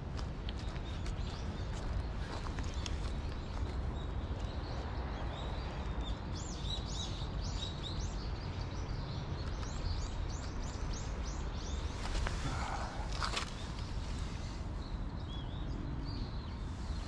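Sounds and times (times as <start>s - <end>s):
city background rumble: 0.0s - 17.0s.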